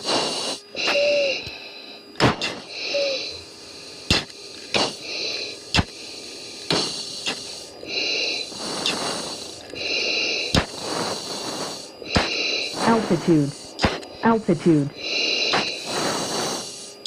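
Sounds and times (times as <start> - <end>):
breathing through oxygen mask: 0.0 - 17.0.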